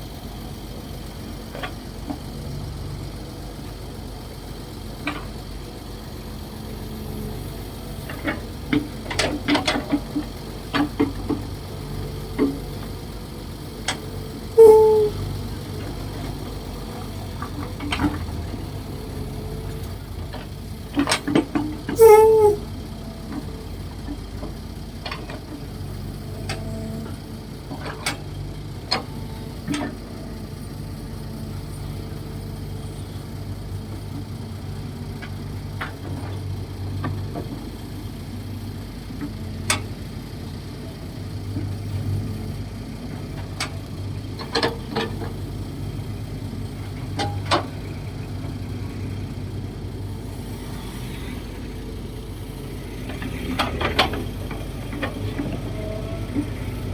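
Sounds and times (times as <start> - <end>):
excavator diesel engine: 0.0 - 56.9.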